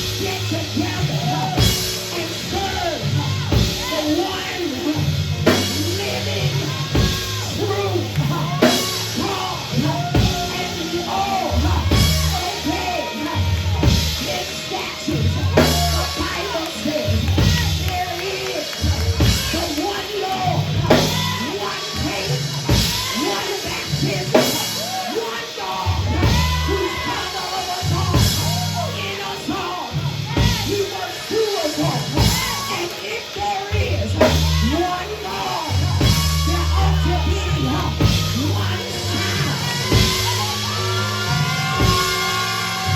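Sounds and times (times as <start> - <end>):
church band music: 0.0 - 42.9
drum kit steady beat: 0.0 - 42.9
voices singing: 0.0 - 42.9.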